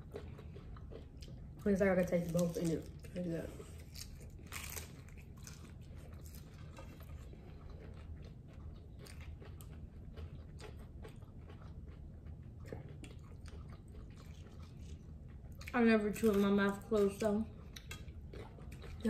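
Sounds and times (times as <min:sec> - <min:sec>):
crunching taco shells: 0:00.0 - 0:19.0.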